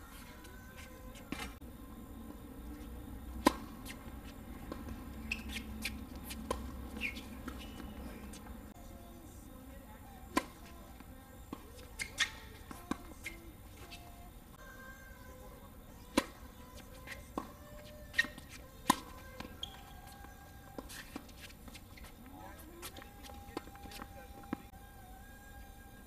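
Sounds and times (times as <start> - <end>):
shoes squeaking on court: 0.0 - 1.6, 2.6 - 8.8, 9.7 - 24.8
tennis balls struck by rackets: 0.0 - 1.7, 2.6 - 8.8, 9.7 - 14.8, 15.6 - 24.8.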